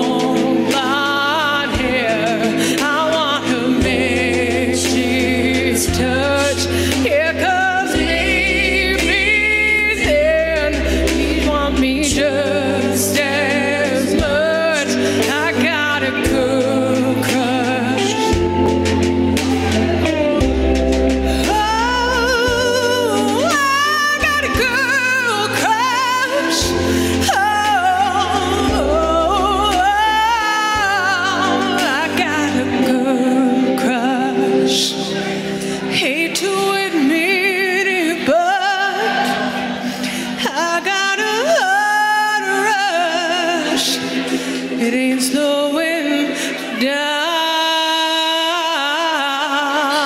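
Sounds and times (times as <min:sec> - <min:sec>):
backing track music: 0:00.0 - 0:50.0
woman singing country ballad: 0:00.0 - 0:50.0.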